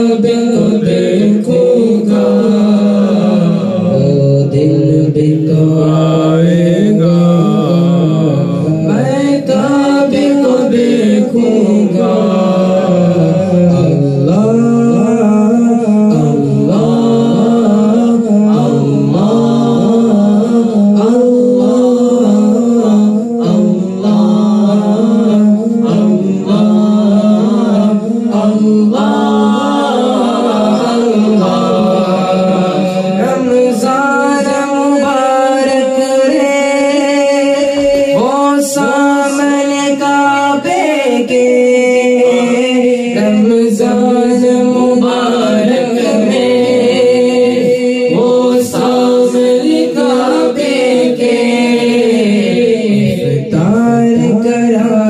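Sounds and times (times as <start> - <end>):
man singing unaccompanied: 0.0 - 55.0.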